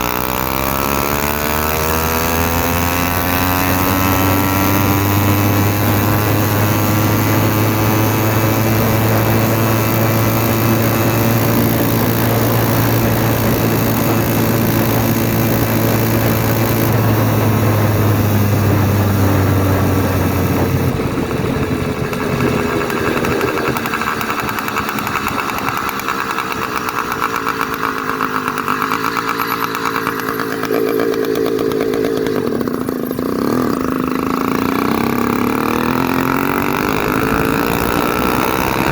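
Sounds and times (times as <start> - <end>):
two-stroke bicycle engine running: 0.0 - 38.9.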